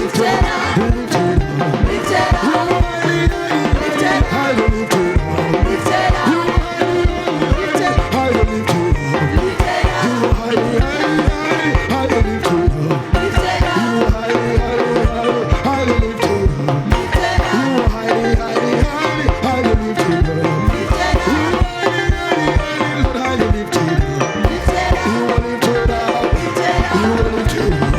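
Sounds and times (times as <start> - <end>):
fast drum beat: 0.0 - 27.9
people singing over a band: 0.0 - 27.9.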